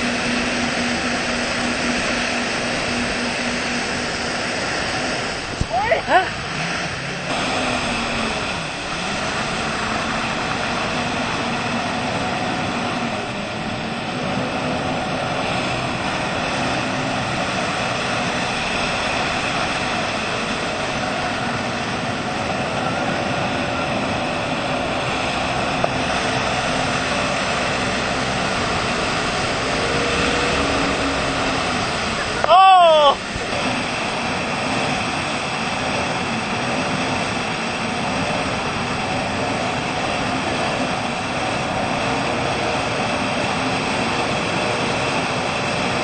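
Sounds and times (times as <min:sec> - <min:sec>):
motorboat engine running: 0:00.0 - 0:46.0
water rushing from wake: 0:00.0 - 0:46.0.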